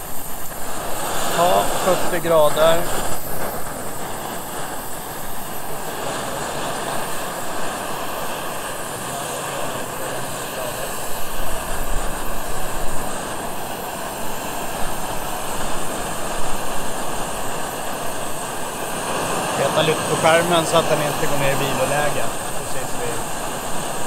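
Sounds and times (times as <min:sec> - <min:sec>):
camping burner hissing: 0:00.0 - 0:24.0.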